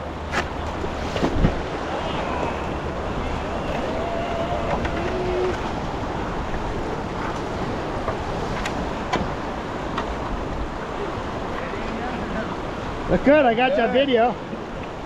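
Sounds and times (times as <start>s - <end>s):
whitewater rushing: 0.0s - 15.0s.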